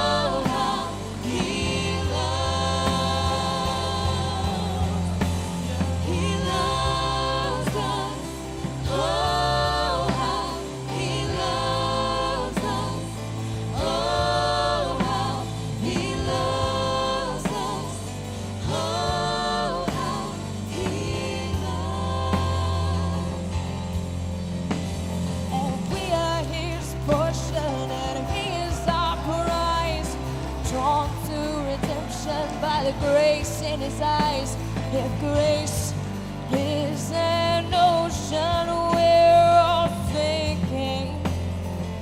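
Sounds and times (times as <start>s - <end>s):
bass and accompaniment: 0.0s - 42.0s
gospel singers holding notes: 0.0s - 42.0s.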